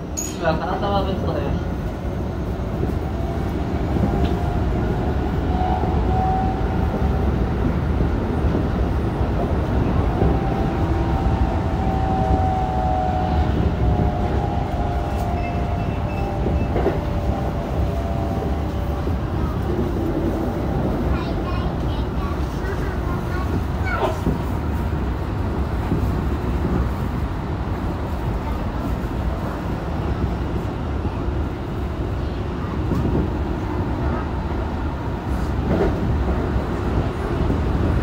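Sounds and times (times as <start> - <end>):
wheels rumbling on rail: 0.0 - 38.0.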